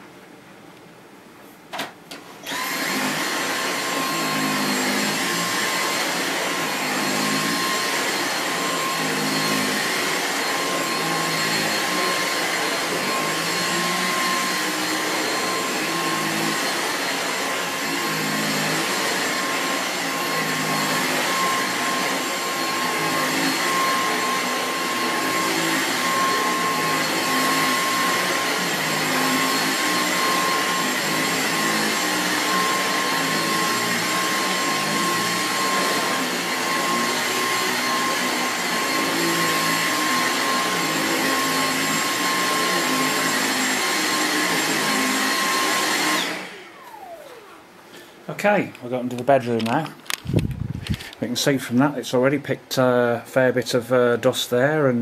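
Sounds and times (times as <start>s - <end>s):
vacuum cleaner running on carpet: 2.2s - 48.0s.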